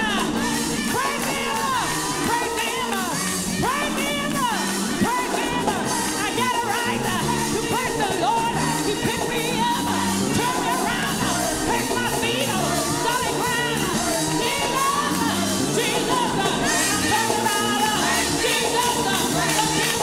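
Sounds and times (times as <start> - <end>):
band with stepping bass: 0.0 - 20.0
gospel voices singing: 0.0 - 20.0.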